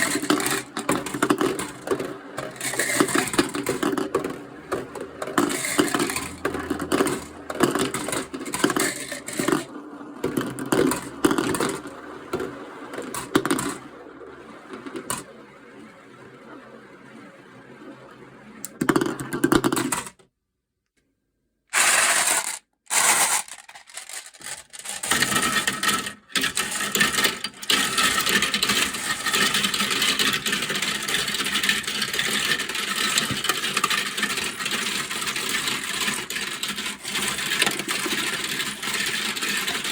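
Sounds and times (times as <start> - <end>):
marbles rolling and clacking: 0.0 - 13.8, 14.7 - 15.3, 18.6 - 20.2, 21.7 - 39.9.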